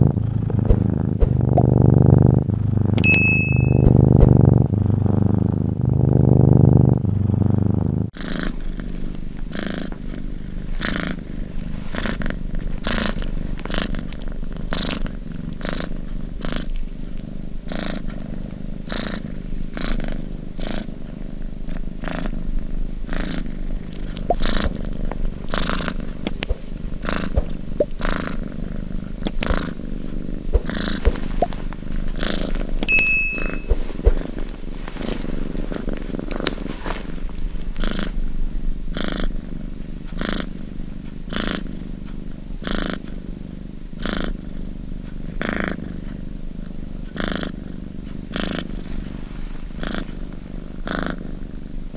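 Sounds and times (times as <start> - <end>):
cat purring: 0.0 - 51.9.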